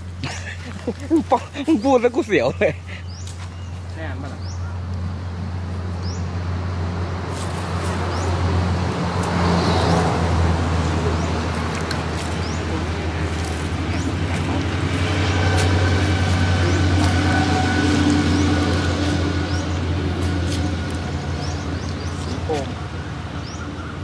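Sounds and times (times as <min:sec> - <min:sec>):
low engine-like rumble: 0:00.0 - 0:24.0.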